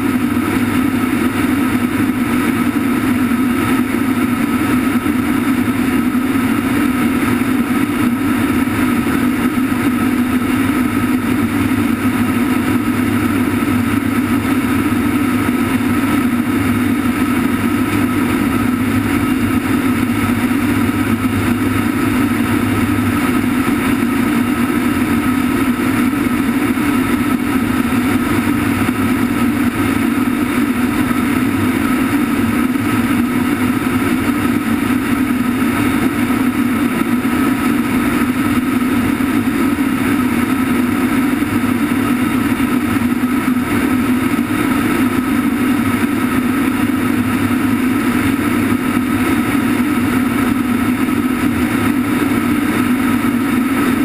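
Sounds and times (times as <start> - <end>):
aircraft engines droning: 0.0 - 54.0
low hum: 0.0 - 54.0.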